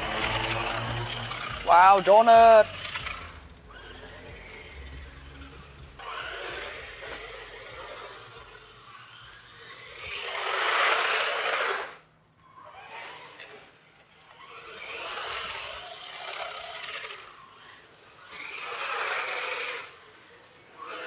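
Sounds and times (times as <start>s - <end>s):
rc truck motors revving: 0.0s - 21.0s.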